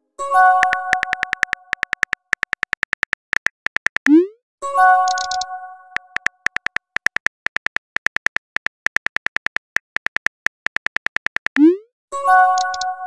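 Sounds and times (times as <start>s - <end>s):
phone keyboard typing clicks: 0.6s - 4.2s, 5.0s - 11.7s, 12.5s - 13.0s.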